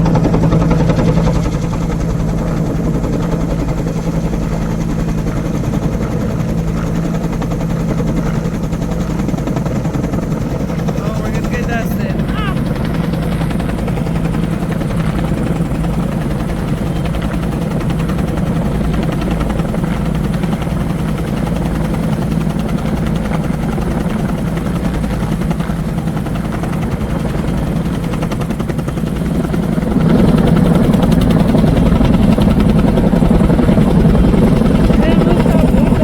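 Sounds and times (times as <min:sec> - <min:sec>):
helicopter rotor and engine running: 0:00.0 - 0:36.0.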